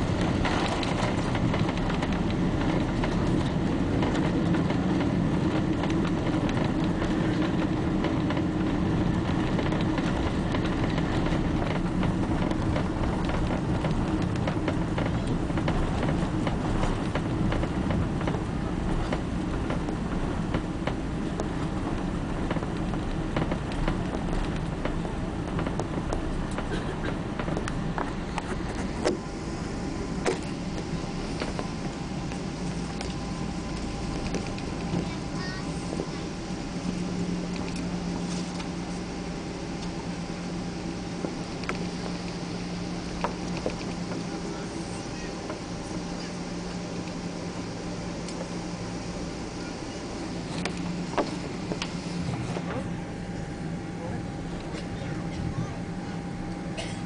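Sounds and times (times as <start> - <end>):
low rumble of wheels and engines: 0.0 - 57.0.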